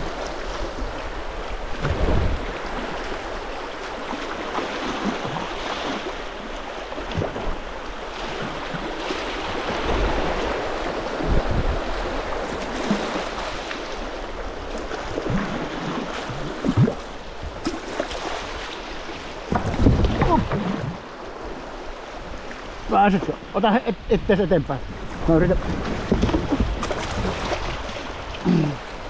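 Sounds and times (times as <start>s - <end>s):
river rapid rushing around kayak: 0.0s - 29.0s.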